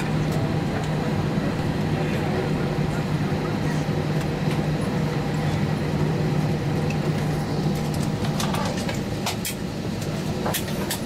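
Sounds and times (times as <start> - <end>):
aircraft cabin hum: 0.0 - 11.0.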